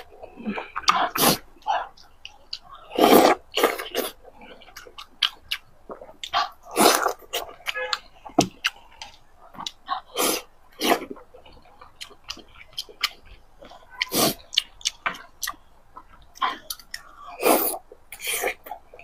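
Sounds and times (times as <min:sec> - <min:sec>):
close chewing with mouth clicks: 0:00.0 - 0:19.0
loud chews: 0:00.0 - 0:19.0.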